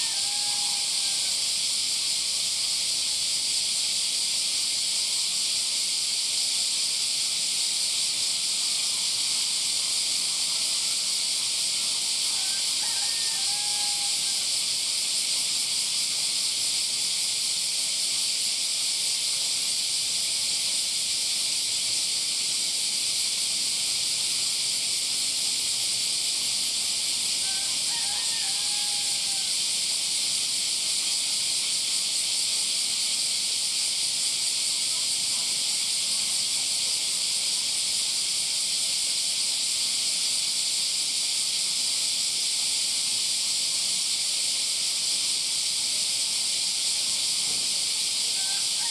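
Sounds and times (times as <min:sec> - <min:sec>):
cicadas buzzing: 0:00.0 - 0:48.9.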